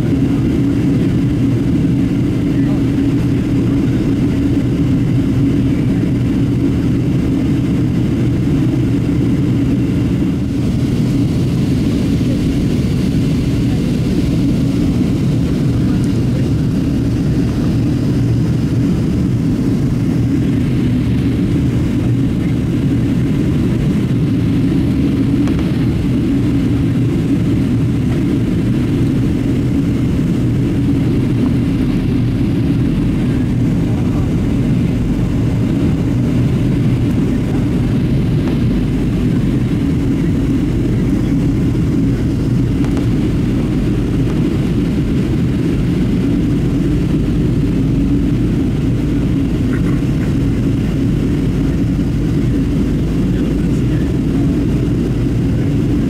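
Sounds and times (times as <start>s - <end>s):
airplane cabin rumble: 0.0s - 56.0s
hum: 0.0s - 56.0s.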